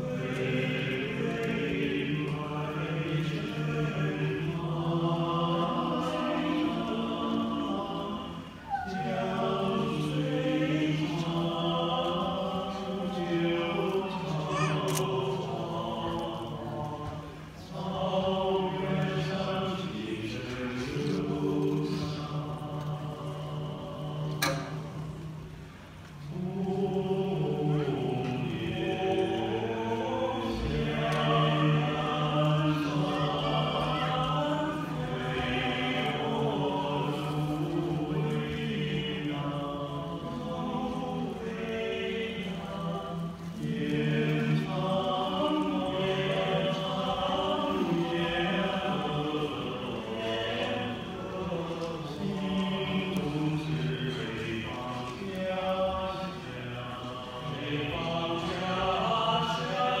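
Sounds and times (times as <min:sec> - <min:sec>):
male vocal group singing in harmony: 0:00.0 - 0:25.4, 0:26.3 - 1:00.0.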